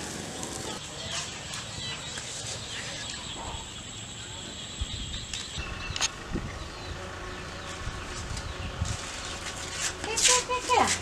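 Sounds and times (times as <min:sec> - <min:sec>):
insects chorus: 0:00.0 - 0:09.8.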